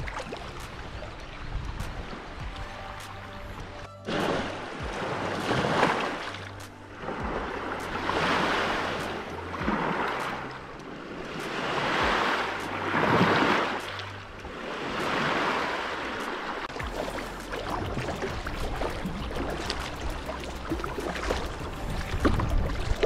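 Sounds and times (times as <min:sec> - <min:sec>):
waves washing onto pebble beach: 0:04.2 - 0:23.0.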